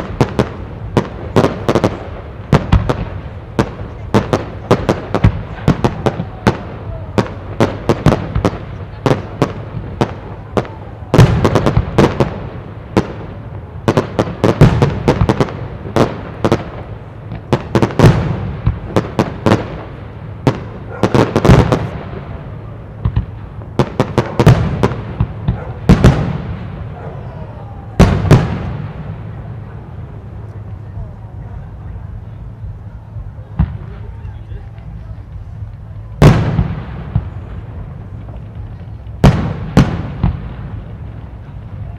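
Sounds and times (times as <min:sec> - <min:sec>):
deep fireworks booms: 0:00.0 - 0:41.9
fireworks sharp bangs: 0:00.0 - 0:41.9.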